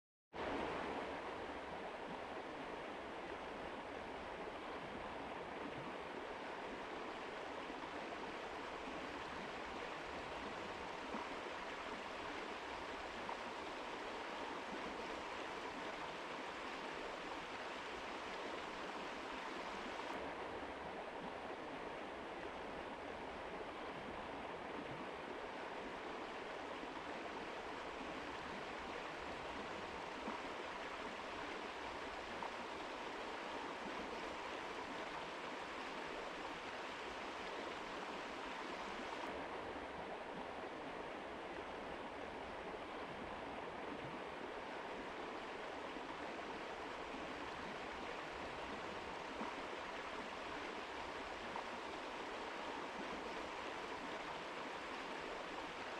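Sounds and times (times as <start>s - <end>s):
river rushing water: 0.4s - 55.9s.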